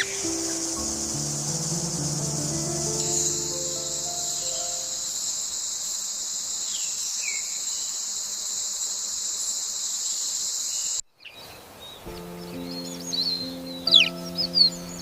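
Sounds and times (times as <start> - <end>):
insect chorus buzzing: 0.0 - 11.0, 12.1 - 15.0.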